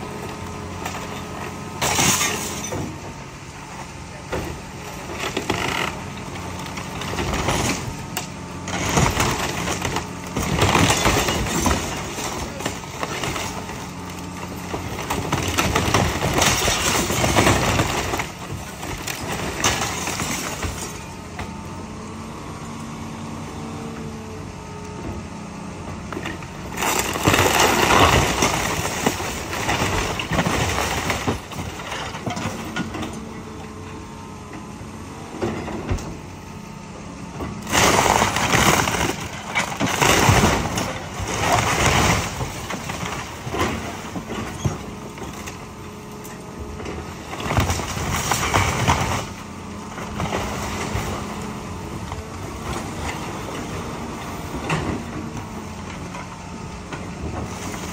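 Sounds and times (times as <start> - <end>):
crashing timber and debris: 0.0 - 21.7, 26.0 - 33.4, 37.4 - 57.9
excavator engine running: 0.0 - 57.9.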